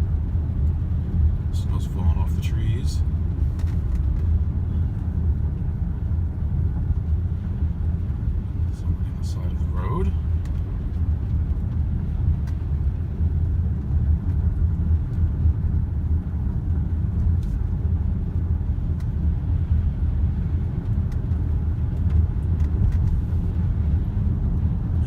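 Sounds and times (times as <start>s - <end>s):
car cabin tyre and engine rumble: 0.0s - 25.0s.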